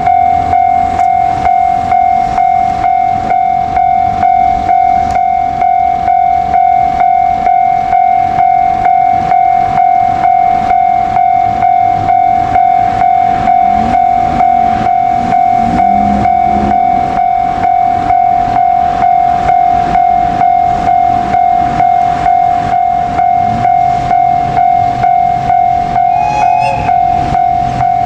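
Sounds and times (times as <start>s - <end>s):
level crossing bell clanging: 0.0s - 28.0s
train rumbling: 0.0s - 28.0s.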